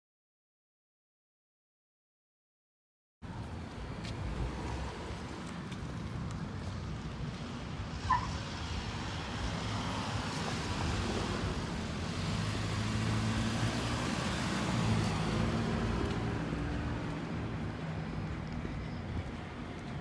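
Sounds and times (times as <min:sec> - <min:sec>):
vehicle engine hum: 0:03.2 - 0:20.0.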